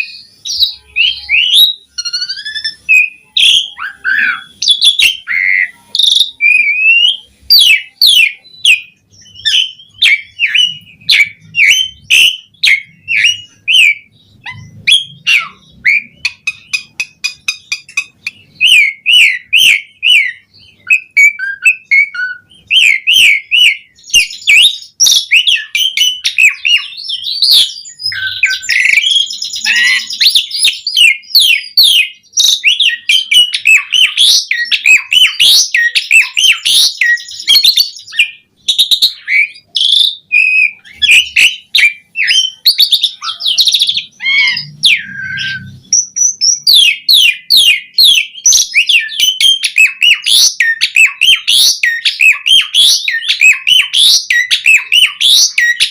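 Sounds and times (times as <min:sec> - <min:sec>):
starling singing: 0:00.0 - 0:55.9.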